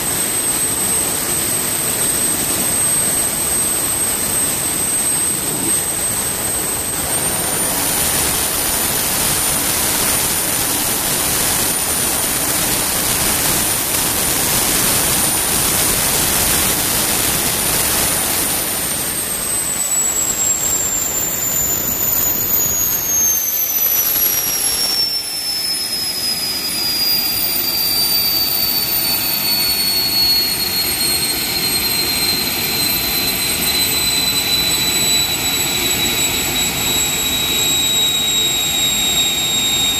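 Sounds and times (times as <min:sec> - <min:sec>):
gas turbine roaring and whining: 0:00.0 - 0:39.9.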